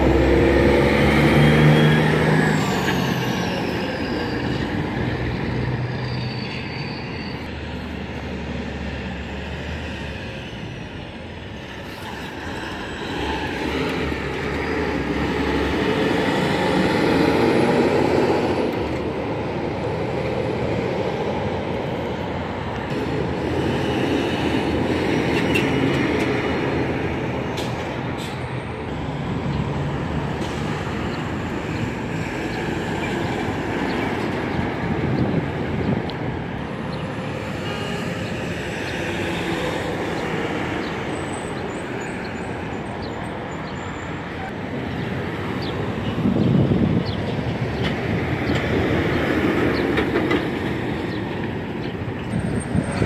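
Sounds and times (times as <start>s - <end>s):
trucks and cars passing: 0.0s - 53.0s.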